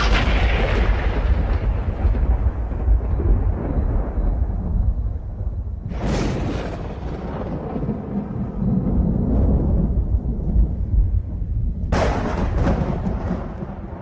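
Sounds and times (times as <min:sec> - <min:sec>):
low rolling thunder rumble: 0:00.0 - 0:14.0
sharp thunder crack: 0:00.0 - 0:14.0.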